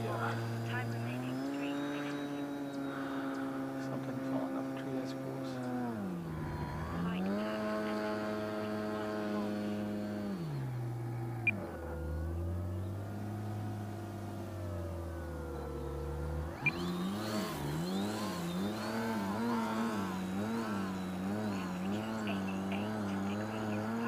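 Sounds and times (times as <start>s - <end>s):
model plane motor droning: 0.0s - 24.0s.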